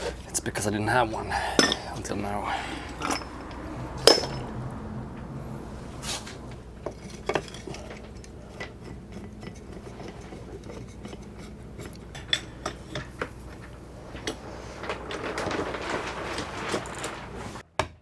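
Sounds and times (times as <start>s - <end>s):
scraping rub: 0.0s - 17.6s.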